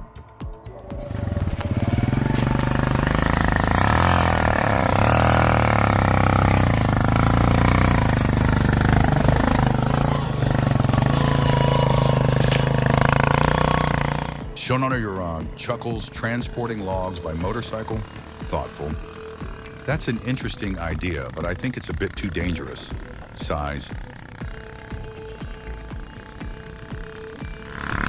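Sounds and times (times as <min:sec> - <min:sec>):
vehicle engine running under load: 0:01.0 - 0:28.0.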